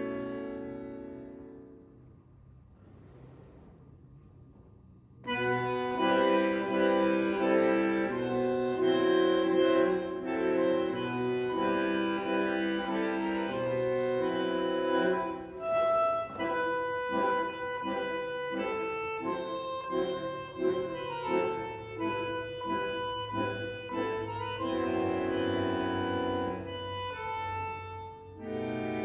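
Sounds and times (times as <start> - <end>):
bandoneon playing chords: 0.0 - 1.7, 5.2 - 29.0.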